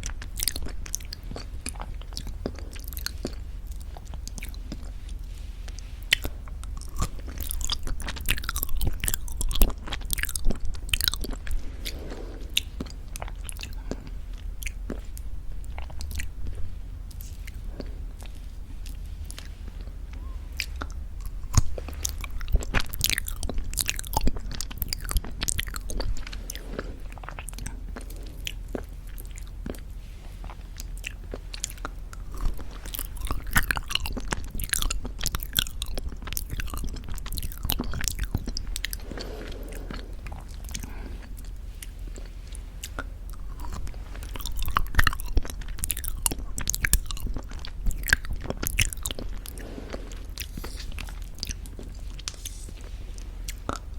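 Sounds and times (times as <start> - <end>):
wet eating mouth sounds: 0.0 - 53.9.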